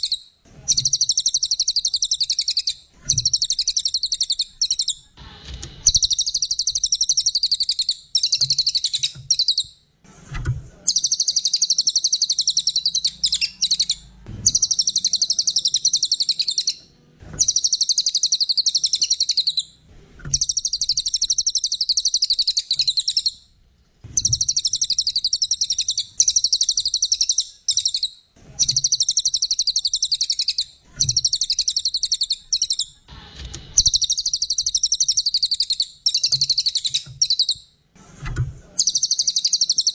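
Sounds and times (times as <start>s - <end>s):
songbird trilling: 0.0s - 5.0s, 5.9s - 9.7s, 10.9s - 16.8s, 17.4s - 19.7s, 20.3s - 23.4s, 24.2s - 32.9s, 33.8s - 37.6s, 38.8s - 39.9s.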